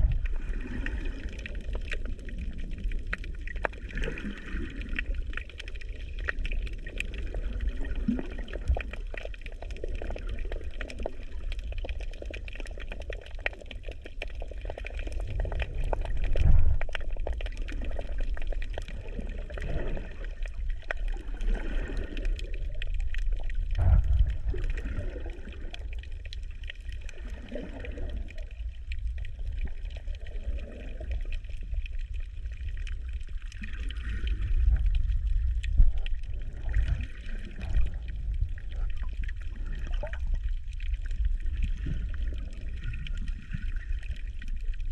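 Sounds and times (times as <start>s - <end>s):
sea water sloshing around camera: 0.0s - 44.9s
water surges: 0.0s - 44.9s.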